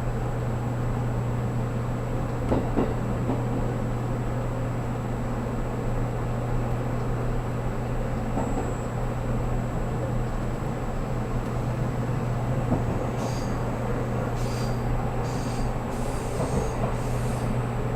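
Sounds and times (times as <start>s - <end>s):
electric train running hum: 0.0s - 17.9s.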